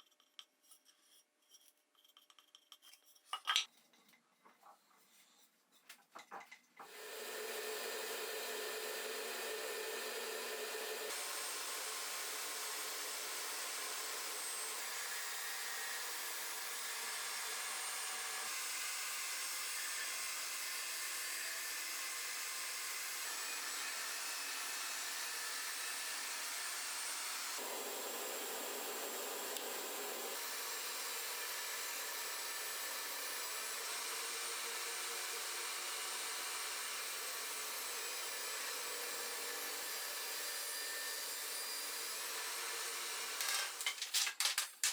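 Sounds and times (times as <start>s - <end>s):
electric machine whirring: 6.8s - 44.9s.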